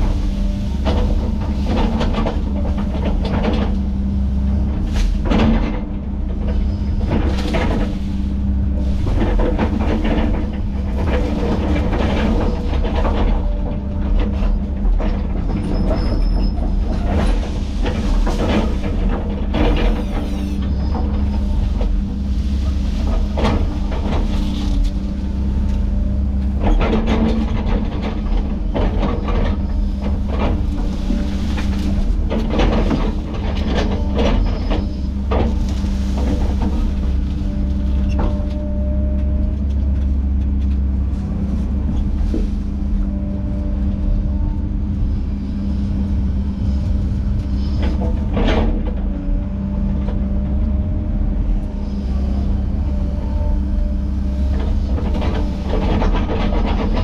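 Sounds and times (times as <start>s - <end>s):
diesel engine droning under load: 0.0s - 57.0s.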